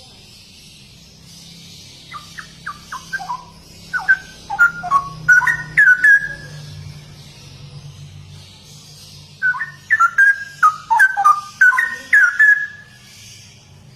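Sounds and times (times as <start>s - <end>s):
bird singing whistled notes: 0.0s - 7.4s, 8.8s - 13.8s.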